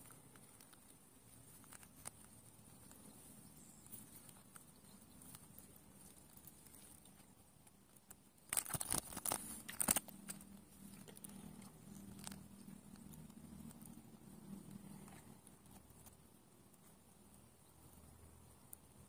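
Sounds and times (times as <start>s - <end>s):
glove handling rustles and clicks: 0.0s - 16.2s.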